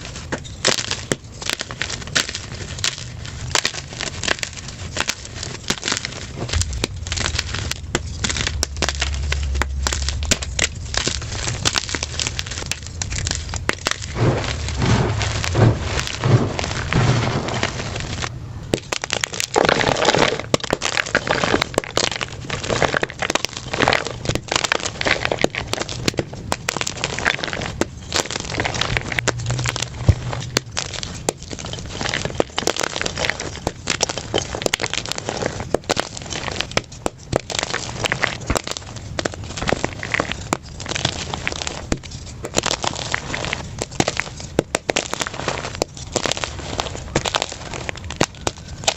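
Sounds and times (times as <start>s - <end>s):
chalk crushed by hand: 0.0s - 48.9s.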